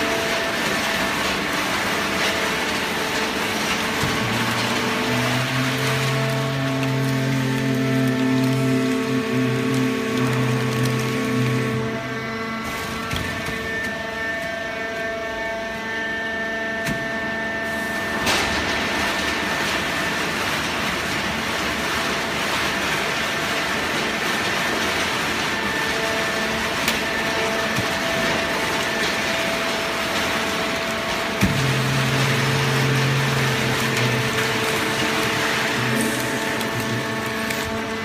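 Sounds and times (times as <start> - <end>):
baling press drone with whine: 0.0 - 38.0.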